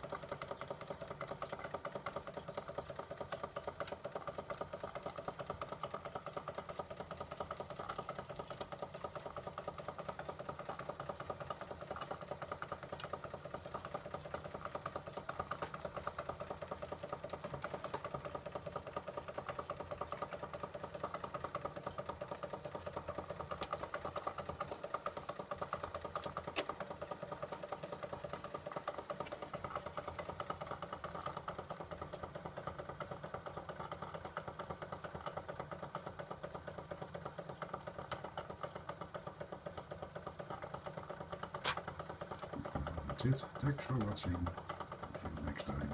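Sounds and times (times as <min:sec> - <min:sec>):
toy steam engine running: 0:00.0 - 0:45.9.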